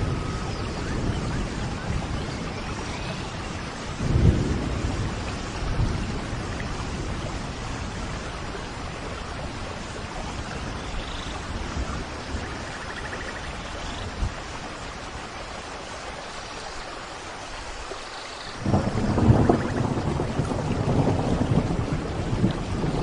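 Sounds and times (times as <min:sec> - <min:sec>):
thunder rumbling: 0:00.0 - 0:14.4, 0:18.6 - 0:23.0
rain hissing: 0:00.0 - 0:23.0.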